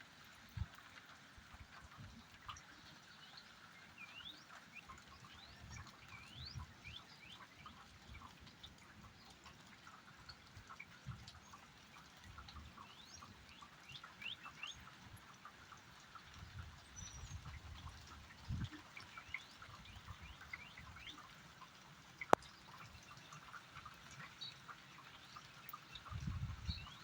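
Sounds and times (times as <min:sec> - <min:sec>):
rain drops ticking: 0:00.0 - 0:27.0.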